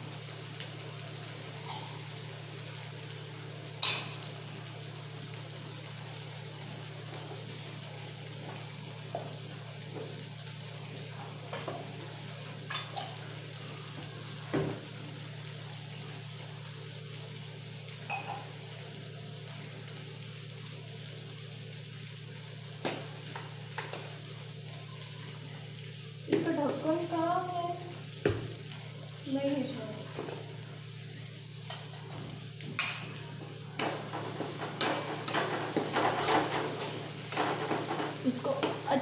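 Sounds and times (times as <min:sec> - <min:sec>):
masala sizzling in oil: 0:00.0 - 0:39.0.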